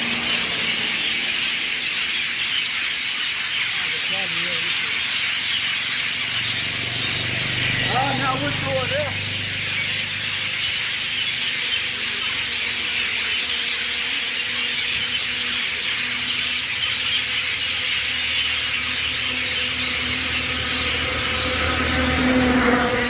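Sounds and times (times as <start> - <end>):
birds chirping chorus: 0.0 - 23.0.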